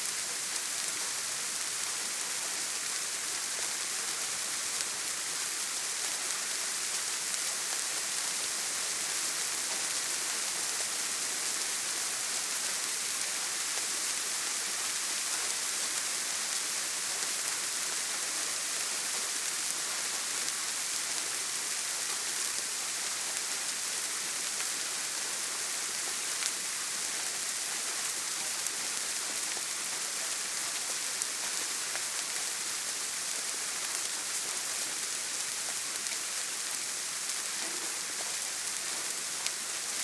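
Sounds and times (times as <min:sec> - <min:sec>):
heavy rain on a tin roof: 0:00.0 - 0:40.0.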